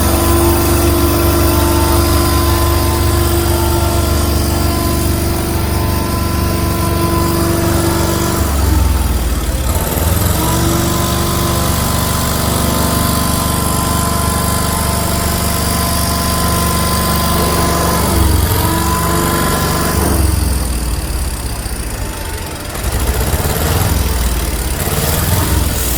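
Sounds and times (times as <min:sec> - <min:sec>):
vehicle engine rumble and whine: 0:00.0 - 0:25.9.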